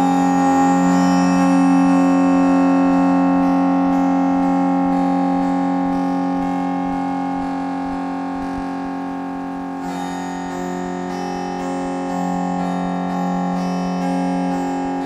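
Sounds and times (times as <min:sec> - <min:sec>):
synthesized plucked string tone: 0:00.0 - 0:15.0.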